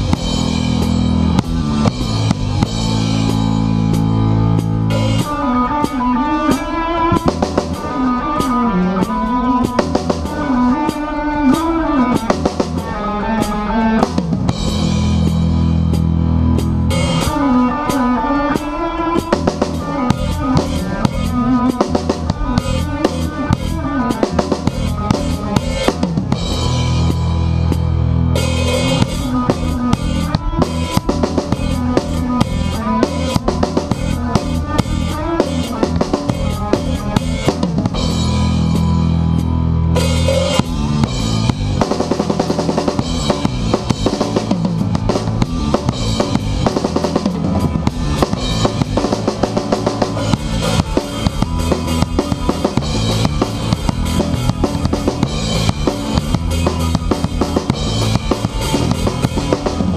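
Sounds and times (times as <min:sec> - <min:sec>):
drum kit beat: 0:00.0 - 0:59.9
electric guitars: 0:00.0 - 0:59.9
live rock band playing loudly: 0:00.0 - 0:59.9.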